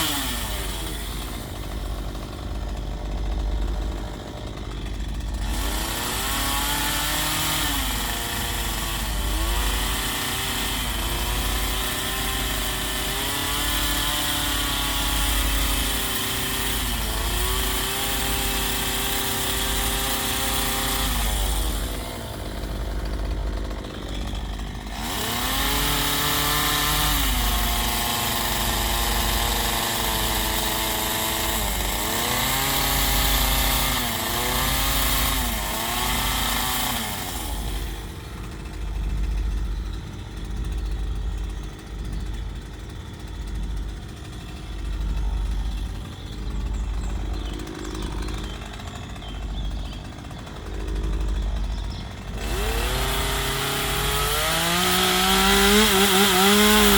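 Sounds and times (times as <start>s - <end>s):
chainsaw cutting wood hiss: 0.0s - 42.2s, 42.8s - 56.9s
chainsaw engine: 0.0s - 56.9s.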